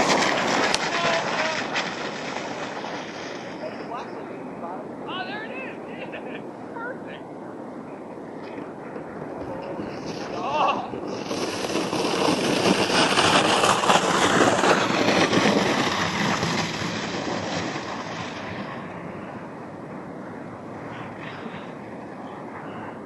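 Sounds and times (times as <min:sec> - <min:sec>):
sled sliding over snow: 0:00.0 - 0:06.9, 0:08.4 - 0:23.0.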